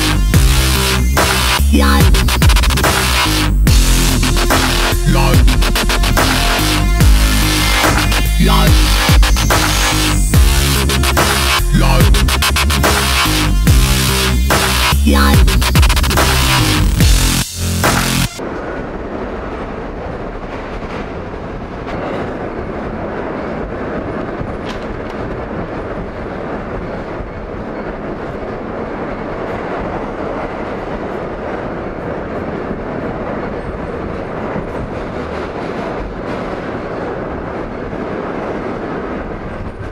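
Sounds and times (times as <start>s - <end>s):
train wheels on track: 0.0s - 39.9s.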